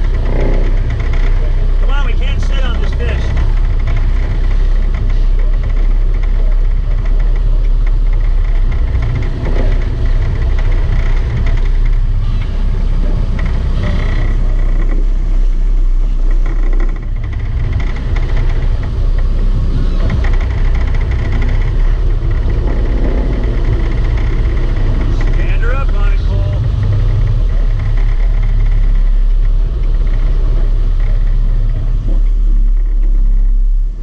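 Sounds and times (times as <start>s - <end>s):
boat engines rumbling: 0.0s - 34.0s
water and air noise: 0.0s - 34.0s.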